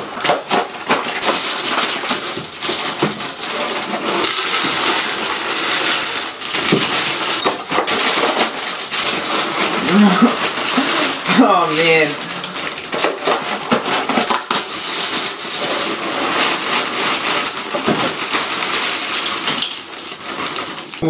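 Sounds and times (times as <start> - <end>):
plastic bag crinkling: 0.0 - 21.0
cereal pouring into glass bowl: 1.2 - 21.0.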